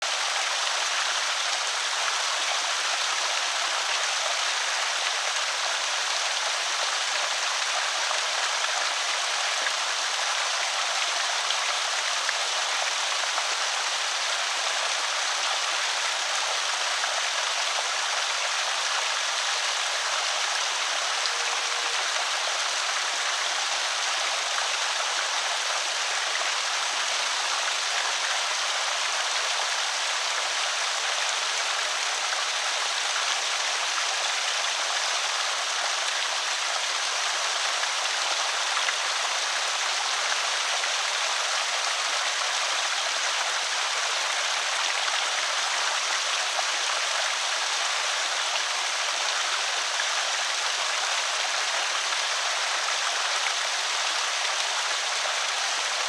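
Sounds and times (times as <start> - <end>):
water pouring over spillway: 0.0 - 56.0.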